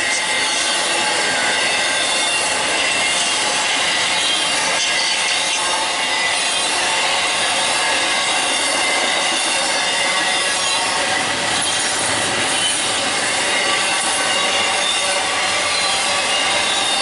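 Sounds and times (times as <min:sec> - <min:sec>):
high wheel squeal: 0:00.0 - 0:17.0
train wheels rolling on track: 0:00.0 - 0:17.0.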